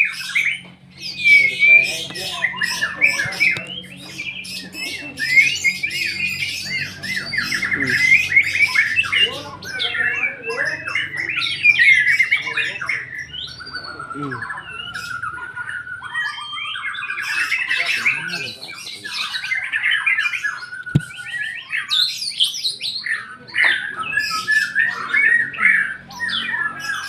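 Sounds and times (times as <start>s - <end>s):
songbird whistling and trilling: 0.0s - 27.0s.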